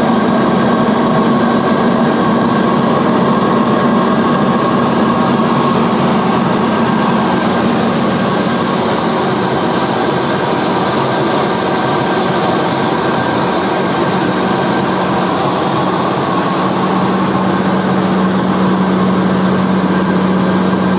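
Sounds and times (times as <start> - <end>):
airplane cabin engine drone: 0.0 - 20.9.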